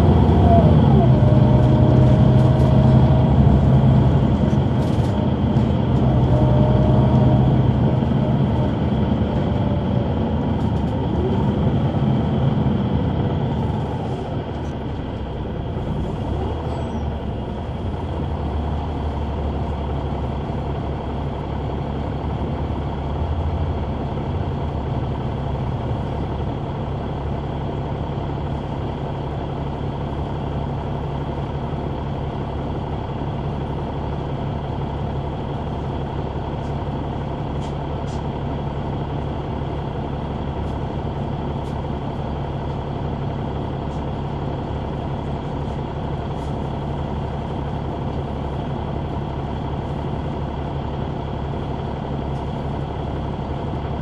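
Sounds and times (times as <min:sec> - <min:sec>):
bus diesel engine humming: 0:00.0 - 0:54.0.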